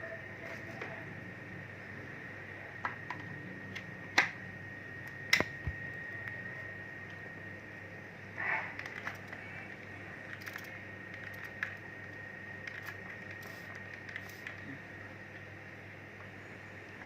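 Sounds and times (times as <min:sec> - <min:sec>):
faint high whine: 0:00.0 - 0:17.0
steady low hum: 0:00.0 - 0:17.0.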